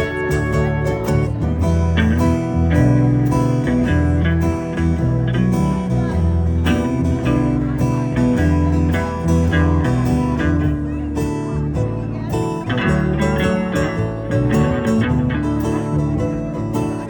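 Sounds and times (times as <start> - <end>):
bass: 0.0 - 17.0
strummed guitar: 0.0 - 17.0.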